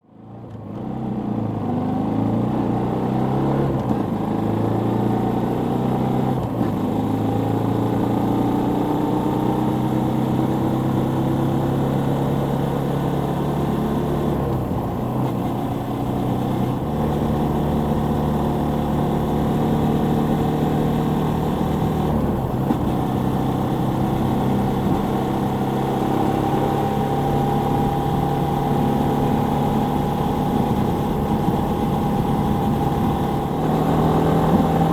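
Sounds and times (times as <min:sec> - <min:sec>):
motorcycle engine running: 0:06.4 - 0:34.9.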